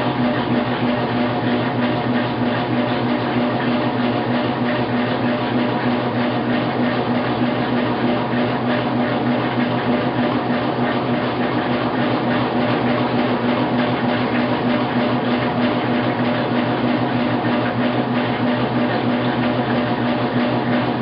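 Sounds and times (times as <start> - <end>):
washing machine running: 0.0 - 21.0.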